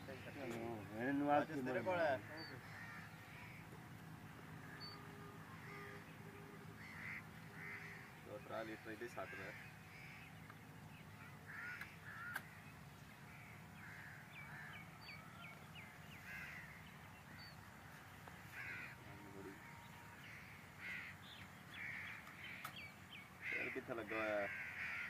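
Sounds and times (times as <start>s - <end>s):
crows cawing: 0.0s - 25.0s
small birds chirping: 0.0s - 25.0s.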